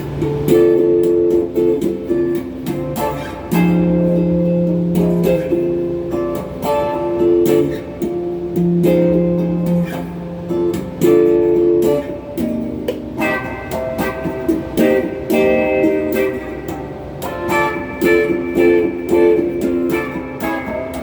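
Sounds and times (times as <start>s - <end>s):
overdriven electric guitar: 0.0s - 21.0s.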